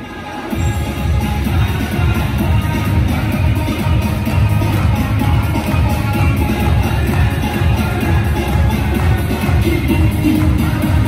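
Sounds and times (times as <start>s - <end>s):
upbeat pop dance music: 0.0s - 11.0s.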